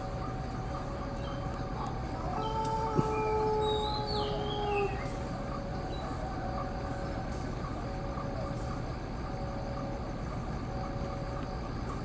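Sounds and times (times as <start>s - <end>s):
diesel locomotive rumble: 0.0s - 12.0s
faint steady whine: 0.0s - 12.0s.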